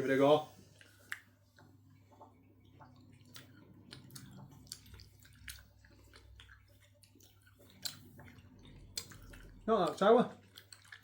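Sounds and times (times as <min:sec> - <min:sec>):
people chewing gummy sweets: 0:00.6 - 0:11.0.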